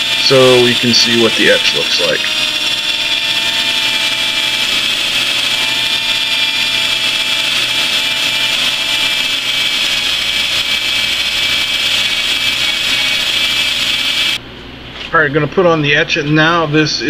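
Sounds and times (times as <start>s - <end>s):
drill motor whine: 0.0s - 14.4s
sanding pad abrasive hiss: 0.0s - 14.4s.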